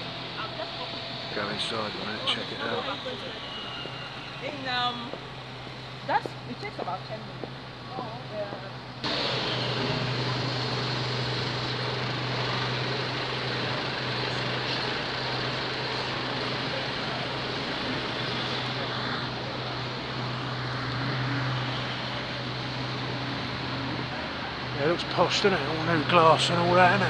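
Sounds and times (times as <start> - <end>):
urban traffic noise: 0.0 - 27.0.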